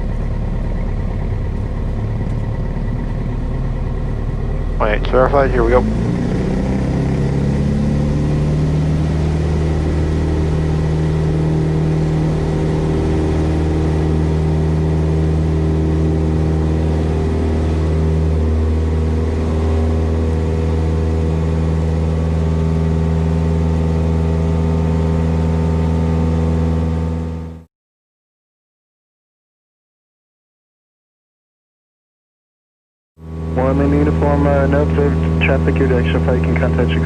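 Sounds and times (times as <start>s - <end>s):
airplane engine and propeller drone: 0.0s - 27.6s, 33.2s - 37.0s.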